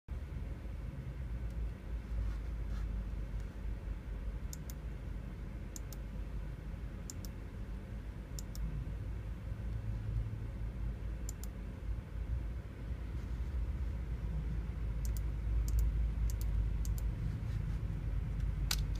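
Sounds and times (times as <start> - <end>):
steady low hum: 0.1 - 18.9.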